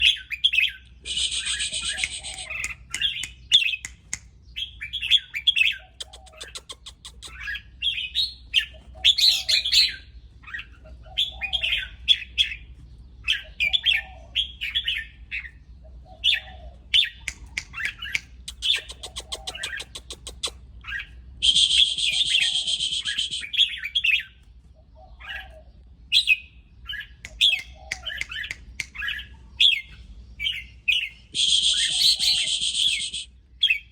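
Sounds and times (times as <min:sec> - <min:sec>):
harsh rasping bird calls: 0:00.0 - 0:33.9
bird calling in short phrases: 0:00.9 - 0:12.6, 0:13.3 - 0:33.9.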